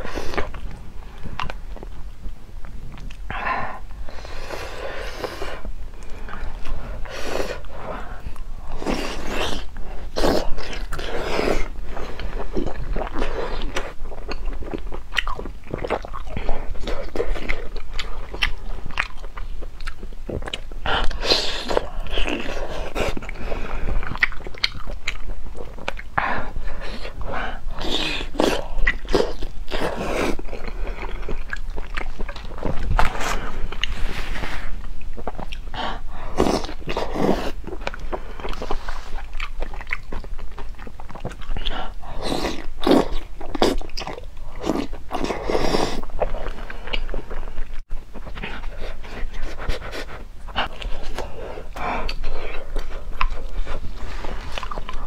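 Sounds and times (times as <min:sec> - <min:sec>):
wet chewing and slurping: 0:04.1 - 0:55.0.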